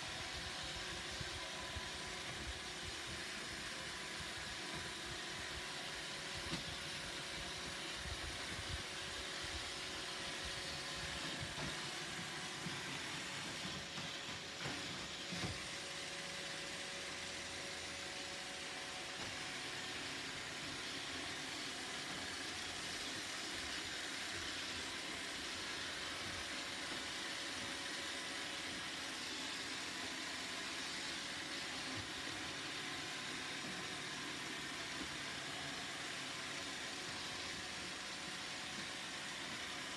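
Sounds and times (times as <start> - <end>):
robot vacuum motor whir: 0.0 - 39.9.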